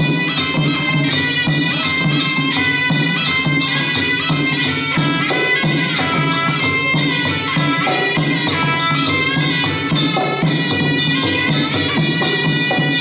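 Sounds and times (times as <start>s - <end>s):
hand drums beating: 0.0s - 13.0s
reed pipe melody: 0.0s - 13.0s
small cymbals: 0.0s - 13.0s.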